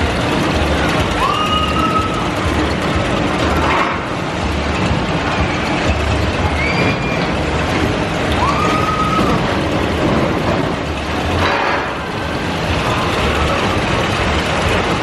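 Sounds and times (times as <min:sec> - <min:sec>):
amusement ride machinery rumbling: 0:00.0 - 0:15.0
machine whine: 0:00.0 - 0:15.0.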